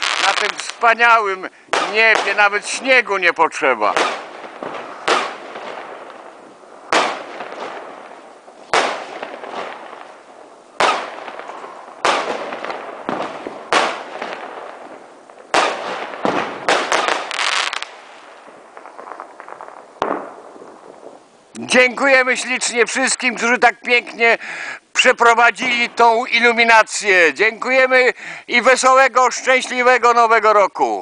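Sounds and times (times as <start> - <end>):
fireworks bangs: 0.0 - 30.4.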